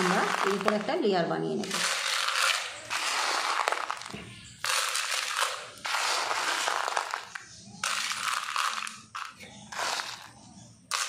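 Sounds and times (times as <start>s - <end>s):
pebbles rattling into pot: 0.0s - 11.0s.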